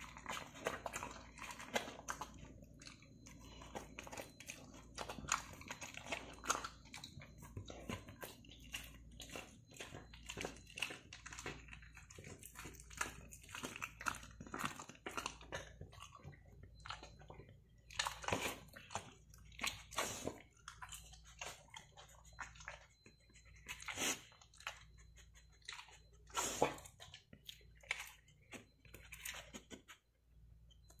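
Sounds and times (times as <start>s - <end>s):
dog crunching food: 0.0s - 30.0s.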